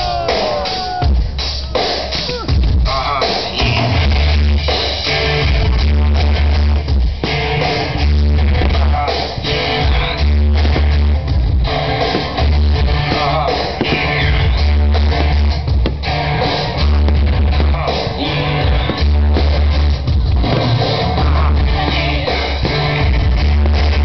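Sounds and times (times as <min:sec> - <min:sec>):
loud rock music: 0:00.0 - 0:24.0.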